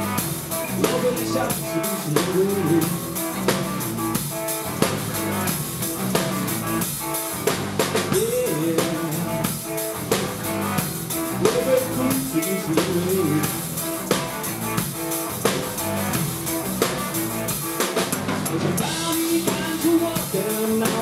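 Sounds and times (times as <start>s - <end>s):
drum kit hits: 0.0s - 21.0s
electric guitars: 0.0s - 21.0s
sliding lead guitar line: 0.0s - 21.0s.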